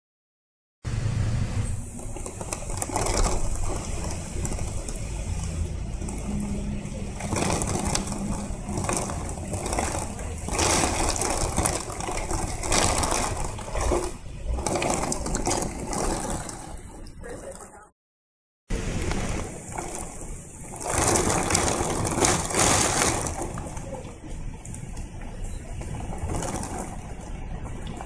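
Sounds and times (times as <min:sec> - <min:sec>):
deep steady rumble: 0:00.9 - 0:17.9, 0:18.7 - 0:28.0
rain against window glass: 0:01.0 - 0:17.9, 0:18.7 - 0:28.0.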